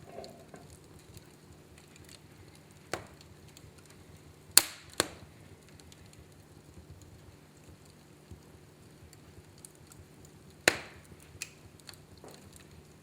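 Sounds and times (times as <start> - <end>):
sharp pops of fire: 0.0 - 13.0
wood fire crackling: 0.0 - 13.0.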